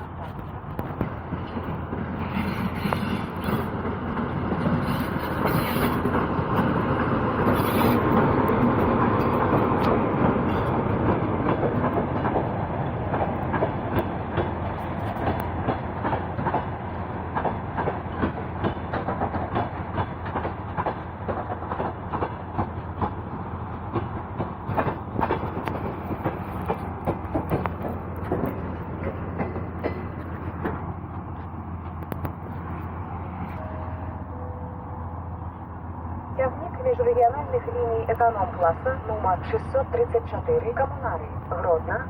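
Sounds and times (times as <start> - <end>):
train wheels clicking on rail joints: 0.0 - 33.7
train rumble: 0.0 - 42.0.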